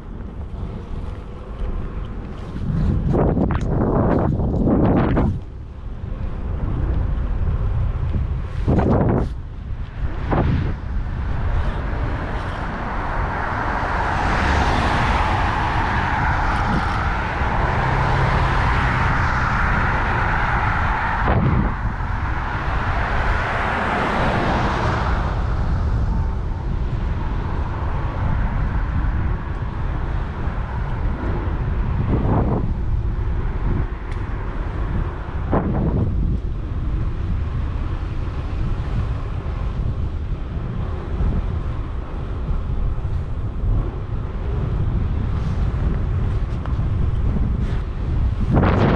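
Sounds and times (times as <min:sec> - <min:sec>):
street traffic: 0:00.0 - 0:48.9
wind rumbling on microphone: 0:00.0 - 0:48.9
vehicle passing: 0:06.1 - 0:48.9.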